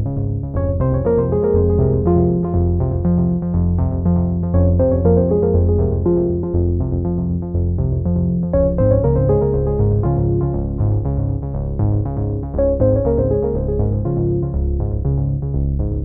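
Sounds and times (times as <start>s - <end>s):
synthesizer and electric piano music: 0.0s - 16.0s.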